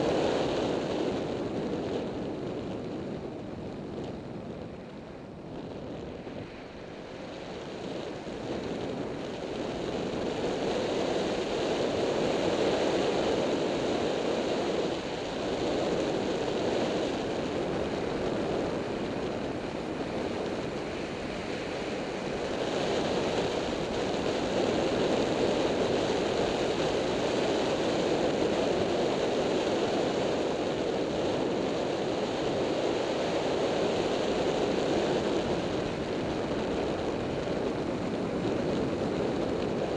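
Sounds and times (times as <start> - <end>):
wind roaring over microphone: 0.0 - 39.9.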